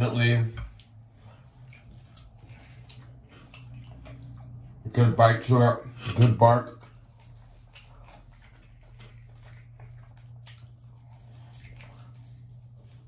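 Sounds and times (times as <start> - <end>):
wet chewing and lip-smacking: 0.5 - 4.9, 6.7 - 13.0.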